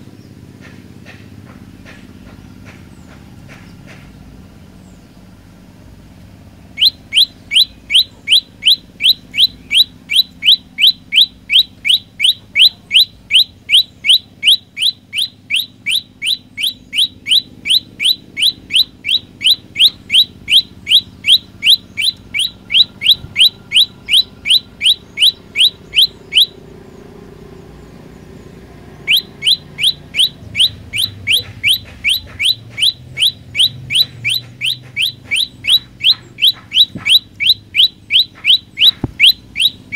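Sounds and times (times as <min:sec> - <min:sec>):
bird singing sharp rising chirps: 0:06.3 - 0:39.9.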